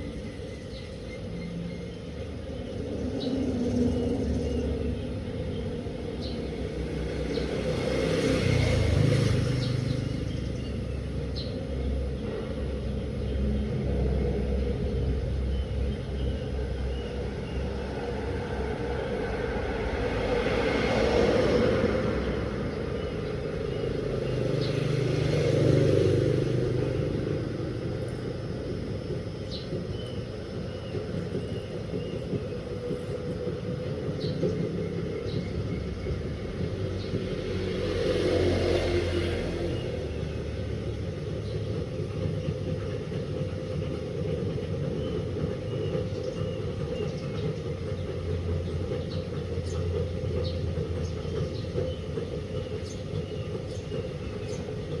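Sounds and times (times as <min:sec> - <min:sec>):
washing machine rumbling: 0:00.0 - 0:55.0.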